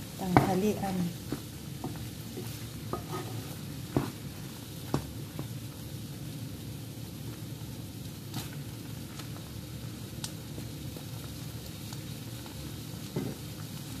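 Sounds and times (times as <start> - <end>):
peas sizzling in a skillet: 0.0 - 14.0.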